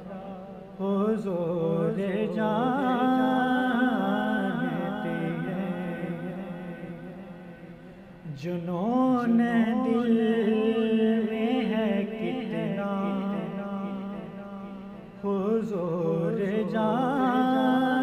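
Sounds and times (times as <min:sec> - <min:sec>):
man singing: 0:00.0 - 0:07.4, 0:08.2 - 0:18.0.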